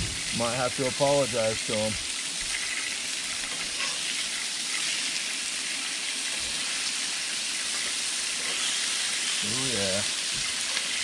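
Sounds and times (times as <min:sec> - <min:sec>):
fish frying in butter: 0:00.0 - 0:11.0.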